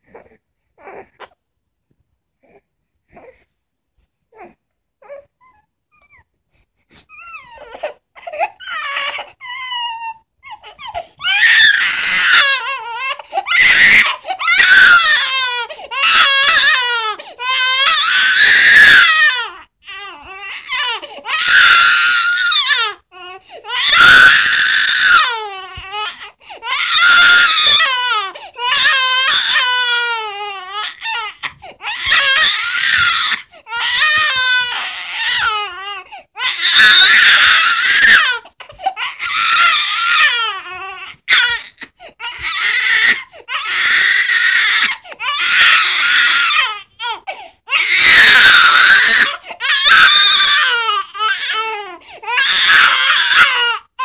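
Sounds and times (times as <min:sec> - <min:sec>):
infant crying: 0:00.0 - 0:01.4, 0:04.3 - 0:06.3, 0:07.0 - 0:54.0.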